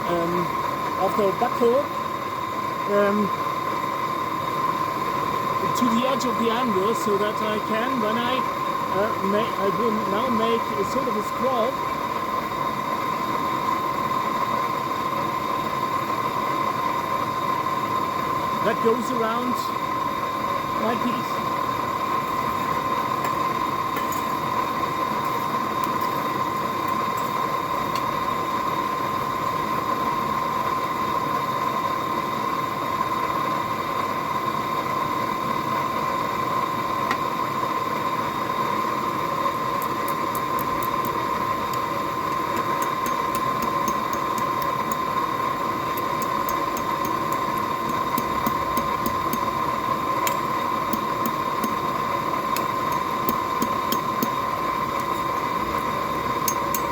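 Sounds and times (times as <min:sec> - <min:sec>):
blower rushing hum: 0:00.0 - 0:56.9.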